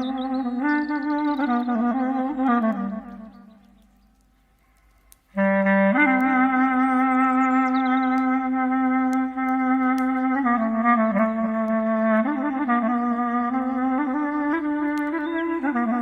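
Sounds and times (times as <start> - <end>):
solo clarinet melody: 0.0 - 3.9, 5.3 - 16.0.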